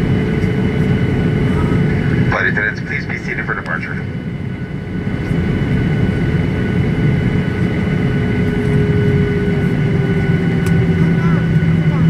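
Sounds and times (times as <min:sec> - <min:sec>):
jet engines rumbling: 0:00.0 - 0:12.0
steady engine whine: 0:00.0 - 0:12.0.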